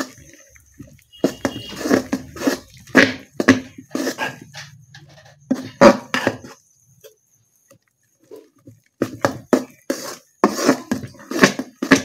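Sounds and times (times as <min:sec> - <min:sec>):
spoon stirring thick batter: 0:00.0 - 0:12.0.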